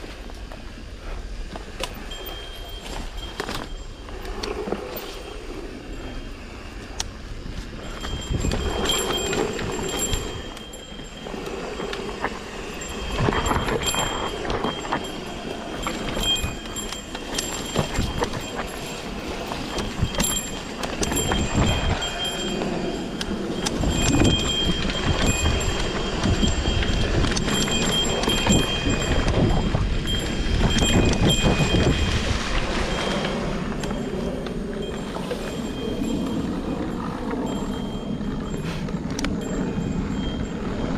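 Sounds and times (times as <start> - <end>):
wind rumble: 0.0 - 40.9
bike rattling over rocks: 1.5 - 40.9.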